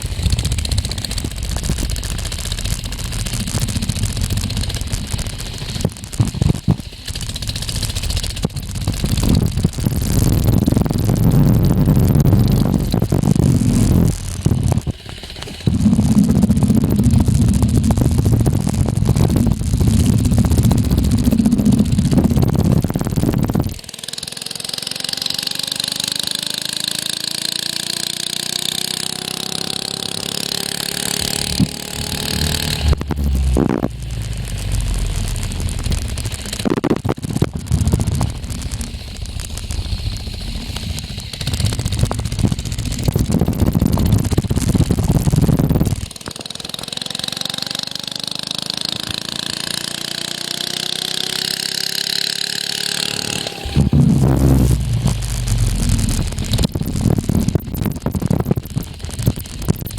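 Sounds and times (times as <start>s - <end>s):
hiss: 0.0s - 59.9s
mini bike engine running: 0.0s - 59.9s.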